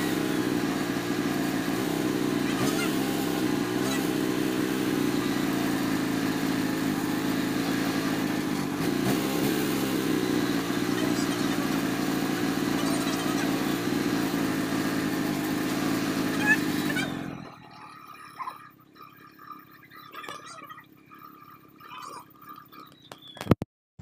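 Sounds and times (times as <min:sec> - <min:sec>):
motorcycle engine idling: 0:00.0 - 0:23.1.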